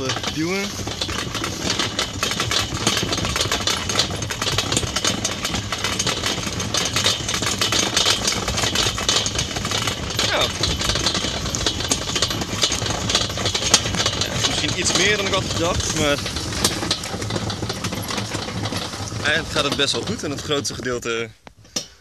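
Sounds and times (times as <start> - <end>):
pushed spreader rattling and clicking: 0.0 - 22.0.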